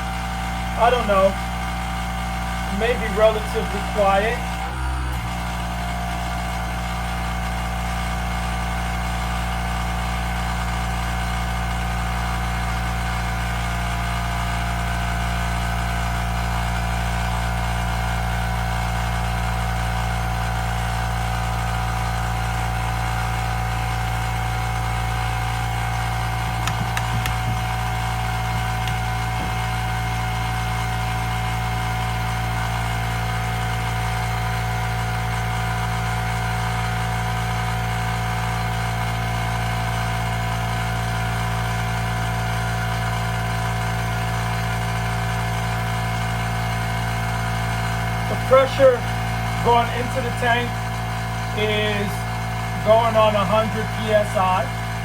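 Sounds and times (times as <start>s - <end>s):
air compressor humming: 0.0s - 55.0s.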